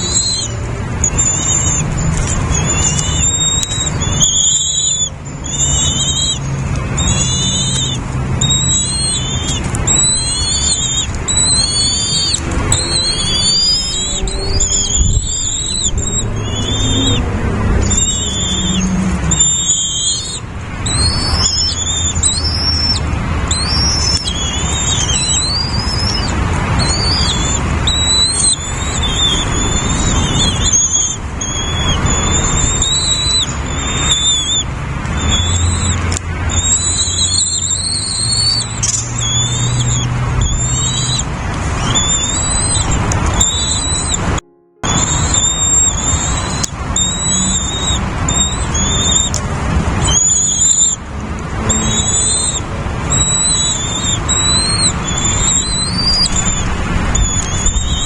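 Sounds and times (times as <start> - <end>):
nestling birds cheeping: 0.0 - 58.0.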